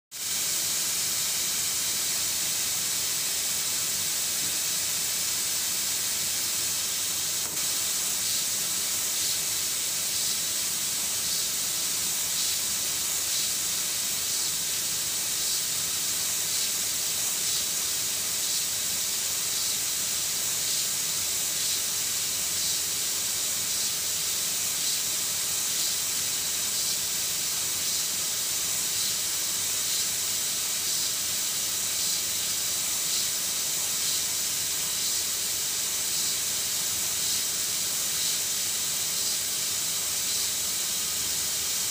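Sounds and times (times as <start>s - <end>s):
gas jetting hiss: 0.1s - 41.9s.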